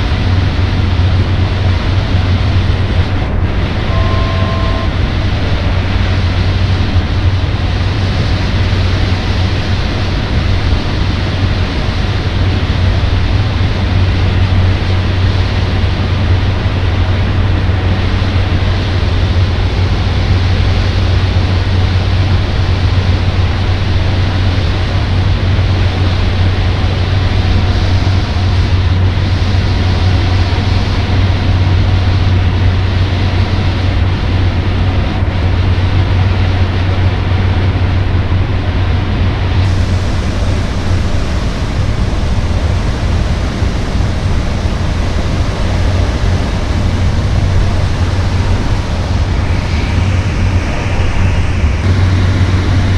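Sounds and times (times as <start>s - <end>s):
rushing cabin noise: 0.0s - 52.9s
turboprop engine drone: 0.0s - 52.9s.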